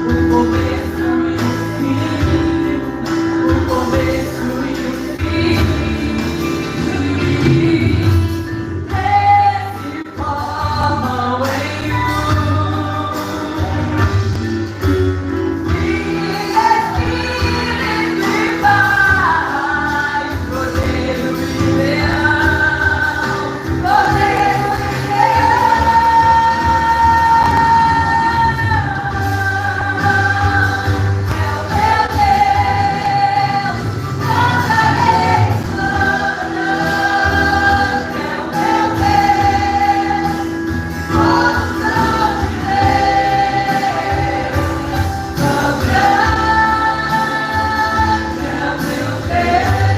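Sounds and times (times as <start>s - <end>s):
worship band with singers: 0.0s - 49.9s.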